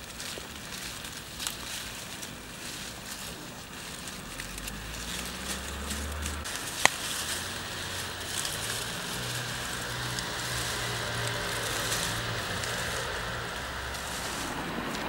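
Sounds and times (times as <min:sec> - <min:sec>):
low rumble: 0:00.0 - 0:15.0
rustle of leaves being handled: 0:00.0 - 0:15.0.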